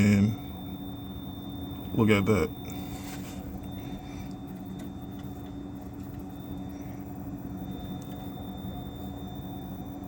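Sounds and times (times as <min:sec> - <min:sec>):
faint high whine: 0:00.0 - 0:10.0
mechanical hum: 0:00.0 - 0:10.0.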